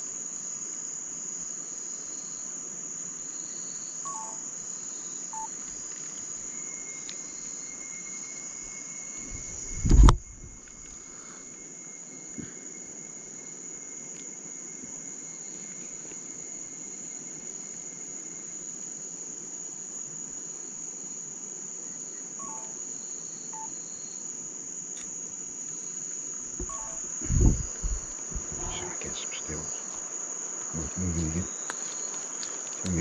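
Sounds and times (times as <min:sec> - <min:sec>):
insect chorus shrill drone: 0:00.0 - 0:33.0.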